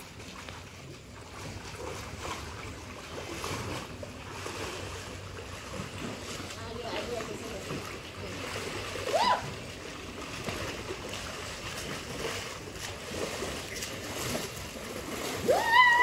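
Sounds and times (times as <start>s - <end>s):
pool water splashing: 0.0s - 16.0s.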